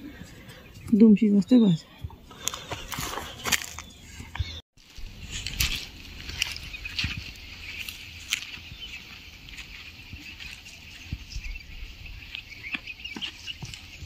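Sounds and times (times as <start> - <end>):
footsteps on dirt path: 0.0 - 14.0.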